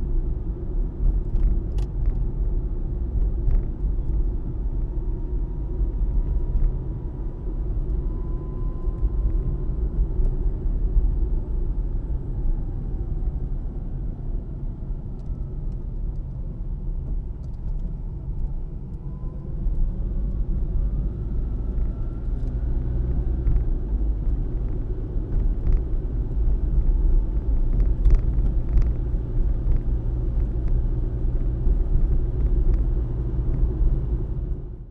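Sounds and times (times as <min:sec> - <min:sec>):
car engine and tyre noise: 0:00.0 - 0:34.9.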